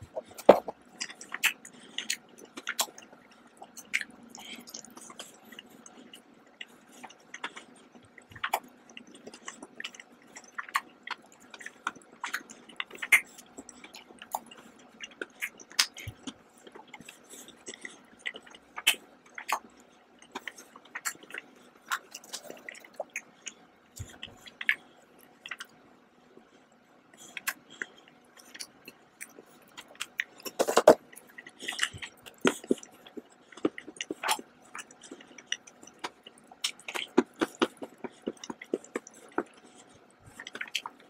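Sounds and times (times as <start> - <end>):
chewing with wet mouth clicks: 0.0 - 25.8, 26.4 - 41.0.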